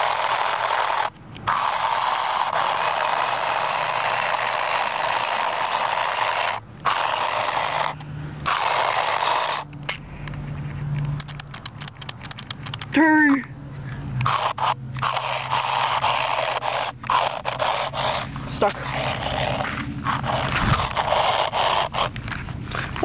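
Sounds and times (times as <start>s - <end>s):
toy car electric motor whirring: 0.0s - 23.0s.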